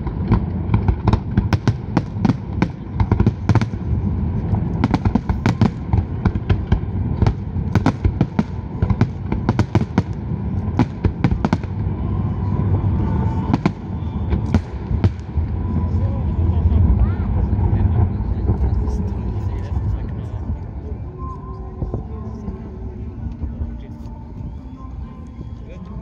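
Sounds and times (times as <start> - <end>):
fireworks bangs and crackles: 0.0 - 22.7
low rumble: 0.0 - 26.0.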